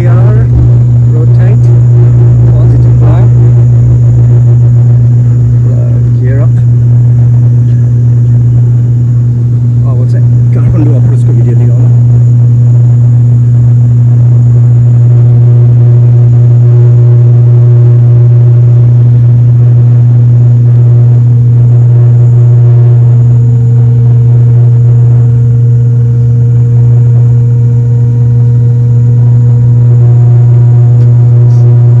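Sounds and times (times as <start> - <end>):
turboprop propeller drone: 0.0 - 32.0.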